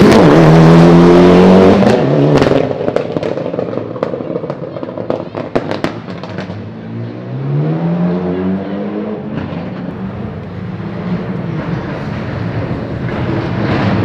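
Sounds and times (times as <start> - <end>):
rally car engine accelerating: 0.0 - 4.5, 6.2 - 14.0.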